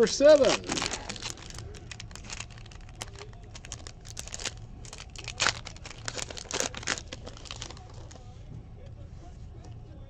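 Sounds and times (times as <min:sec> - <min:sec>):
card pack wrapper tearing: 0:00.0 - 0:08.2.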